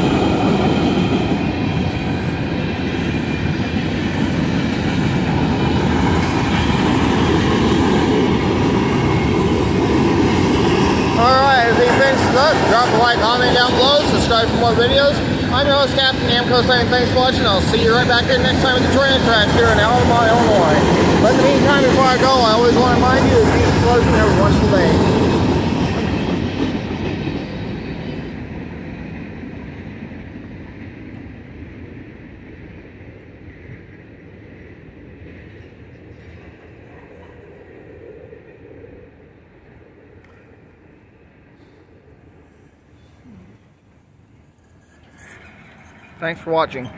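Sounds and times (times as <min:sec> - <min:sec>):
clickety-clack of rail joints: 0:00.0 - 0:31.5, 0:34.6 - 0:38.3, 0:44.4 - 0:46.9
train wheels rumbling on rails: 0:00.0 - 0:41.0, 0:44.4 - 0:46.9.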